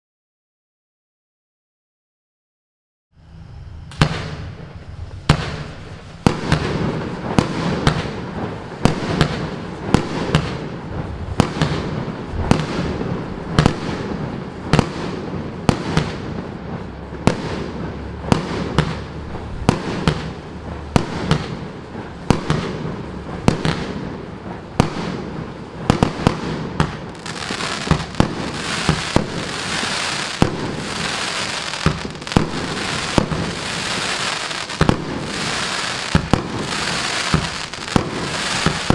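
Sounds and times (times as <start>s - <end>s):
firework hiss: 3.2s - 38.9s
firework shots and bursts: 3.9s - 38.9s.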